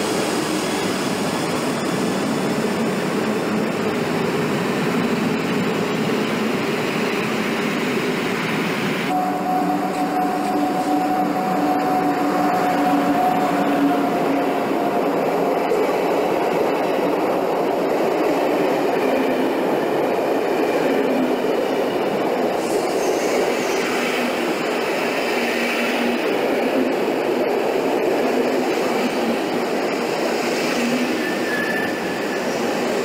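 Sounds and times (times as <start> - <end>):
electric locomotive humming: 0.0 - 33.0
train wheels rumbling on rails: 0.0 - 33.0.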